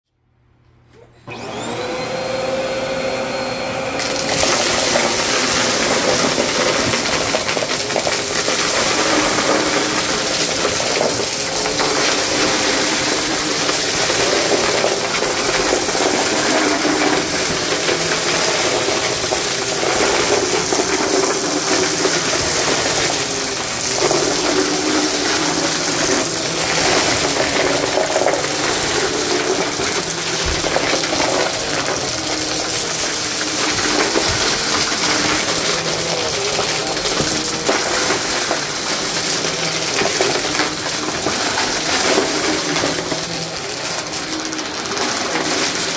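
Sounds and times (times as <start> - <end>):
vacuum motor whine: 0.9 - 45.9
vacuum sucking up rattling debris: 1.3 - 45.9.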